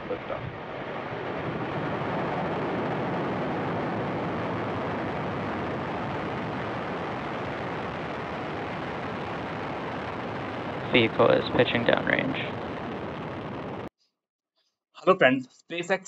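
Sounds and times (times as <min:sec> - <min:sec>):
rocket engines roaring: 0:00.0 - 0:13.9.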